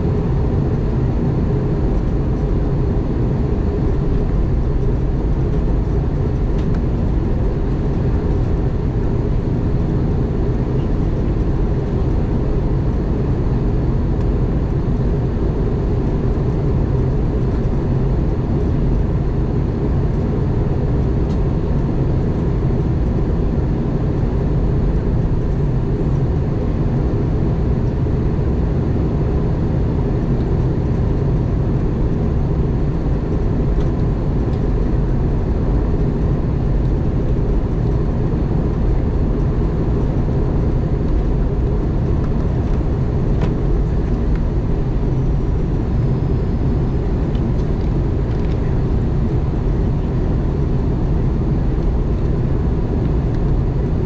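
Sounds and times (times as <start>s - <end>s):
aircraft cabin engine rush: 0.0s - 54.0s
faint steady whine: 0.0s - 54.0s.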